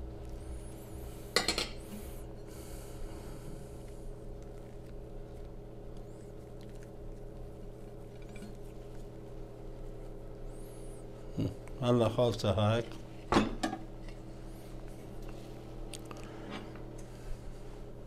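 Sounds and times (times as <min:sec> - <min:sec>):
steady low hum: 0:00.0 - 0:18.0
soft handling of food: 0:02.0 - 0:13.3, 0:13.9 - 0:18.0.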